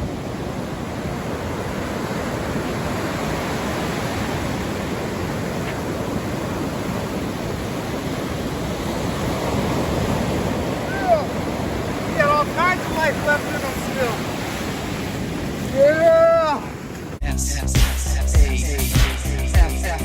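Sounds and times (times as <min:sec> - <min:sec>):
ocean surf breaking: 0:00.0 - 0:17.2.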